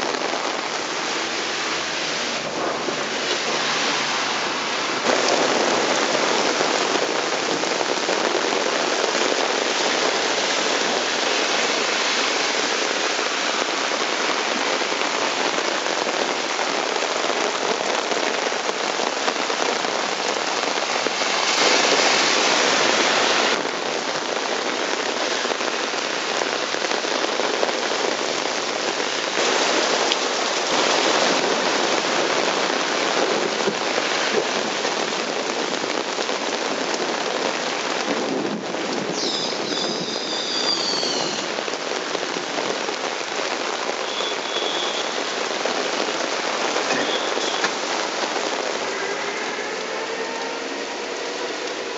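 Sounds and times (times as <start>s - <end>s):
heavy rain splashing on street: 0.0s - 51.9s.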